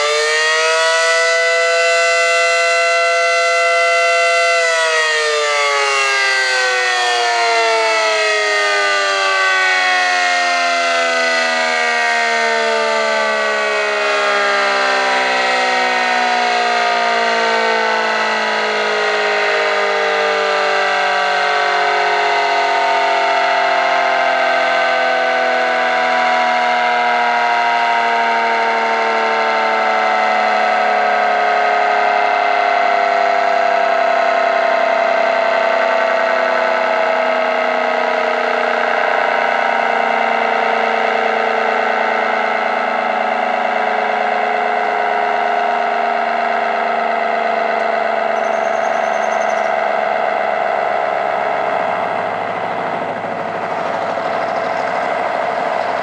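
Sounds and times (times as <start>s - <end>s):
warning siren falling in pitch: 0.0s - 56.0s.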